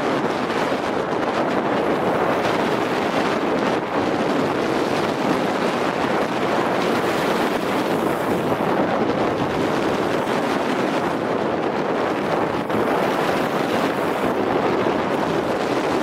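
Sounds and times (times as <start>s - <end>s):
wind buffeting microphone: 0.0s - 16.0s
skis sliding over snow: 1.4s - 16.0s.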